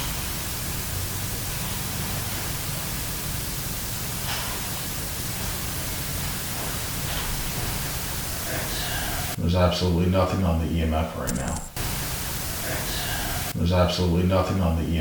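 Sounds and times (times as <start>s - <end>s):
recorder playback hiss: 0.0s - 15.0s.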